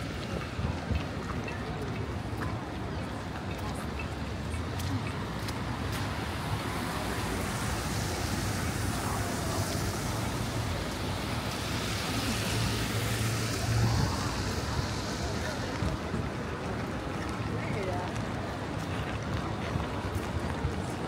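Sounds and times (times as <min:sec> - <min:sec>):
city street noise: 0:00.0 - 0:21.0.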